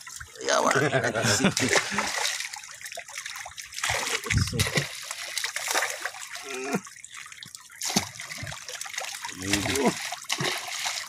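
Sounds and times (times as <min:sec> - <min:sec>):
fish splashing water: 0:01.5 - 0:11.0.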